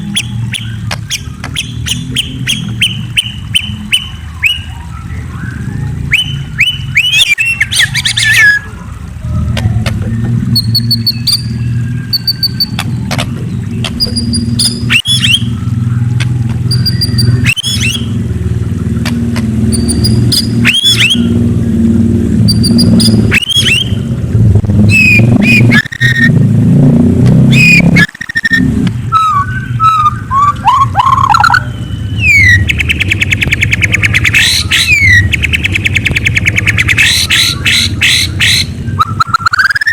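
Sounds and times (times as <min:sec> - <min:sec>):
bird calling: 0:00.0 - 0:21.5, 0:22.4 - 0:24.2, 0:24.9 - 0:26.3, 0:27.5 - 0:39.9
loud steady low hum: 0:00.0 - 0:39.5.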